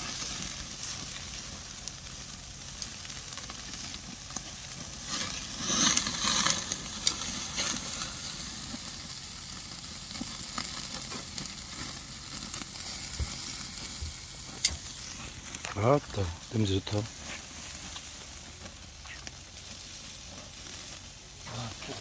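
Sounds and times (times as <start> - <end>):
pork sizzling on a grill: 0.0 - 22.0.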